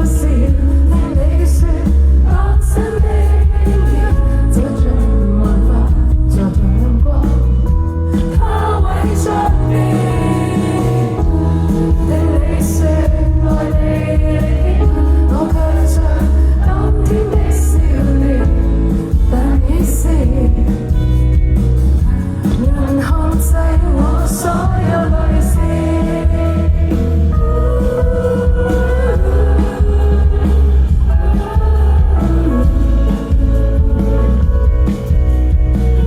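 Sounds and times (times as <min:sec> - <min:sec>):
heavy bass line: 0:00.0 - 0:36.0
live band with singing: 0:00.0 - 0:36.0.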